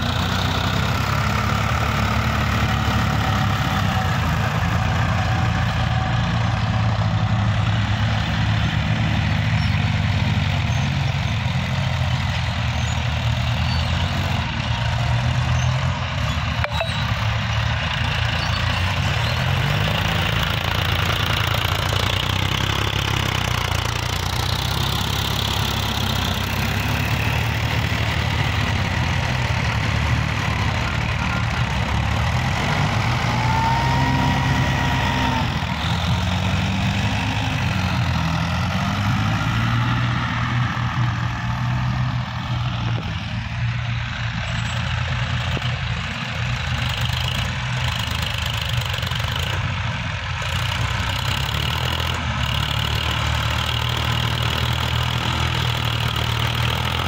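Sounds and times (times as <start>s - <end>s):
tractor diesel engines running: 0.0s - 57.0s.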